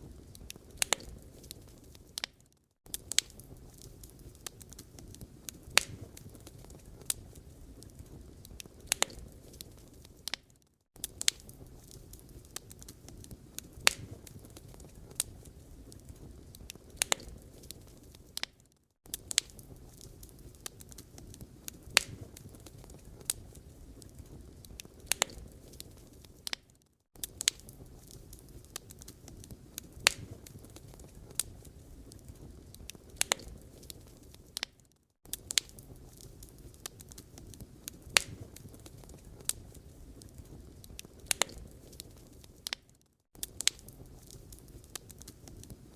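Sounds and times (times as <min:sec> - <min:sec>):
fire rumbling: 0:00.0 - 0:02.3, 0:02.9 - 0:10.4, 0:11.0 - 0:18.5, 0:19.1 - 0:26.6, 0:27.2 - 0:34.7, 0:35.3 - 0:42.8, 0:43.4 - 0:45.9
fire crackling and popping: 0:00.0 - 0:45.9.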